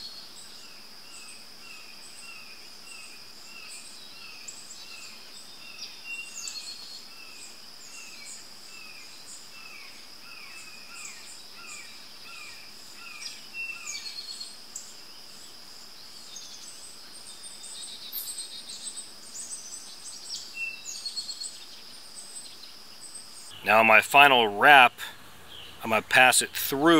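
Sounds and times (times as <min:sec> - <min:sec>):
insects droning: 0:00.0 - 0:26.9.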